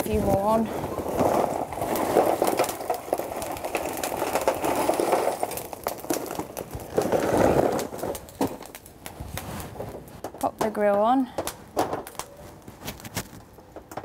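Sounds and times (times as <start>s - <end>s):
charcoal clattering onto coals: 0.0s - 14.0s.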